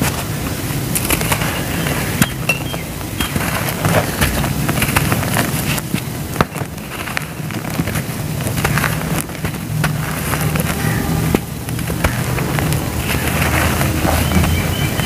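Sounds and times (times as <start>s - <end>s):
cement lumps crumbling: 0.0s - 15.0s
grains pouring onto sand: 0.0s - 15.0s.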